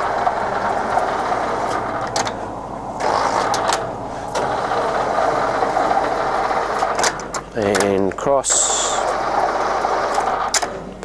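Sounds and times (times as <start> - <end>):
lathe carriage whirring: 0.0 - 11.0.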